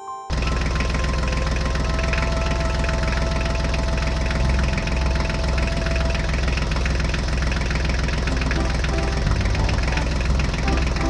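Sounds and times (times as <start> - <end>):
fast even ticking: 0.3 - 11.0
small engine running: 0.3 - 11.0.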